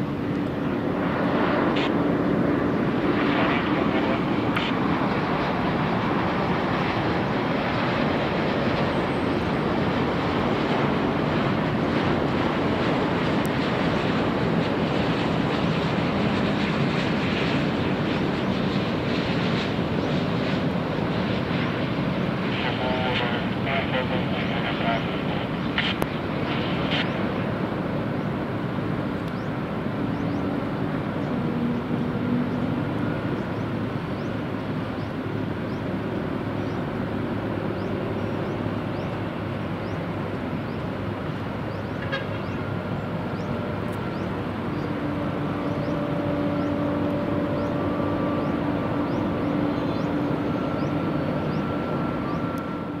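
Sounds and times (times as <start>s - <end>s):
city road traffic roar: 0.0s - 53.0s.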